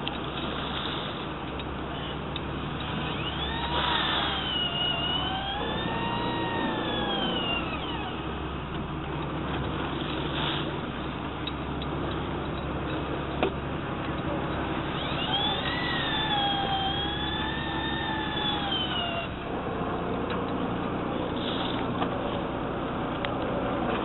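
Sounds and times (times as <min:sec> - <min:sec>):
boat engine humming: 0:00.0 - 0:24.0
water wash: 0:00.0 - 0:24.0
whine rising and falling: 0:01.4 - 0:10.2, 0:10.8 - 0:24.0.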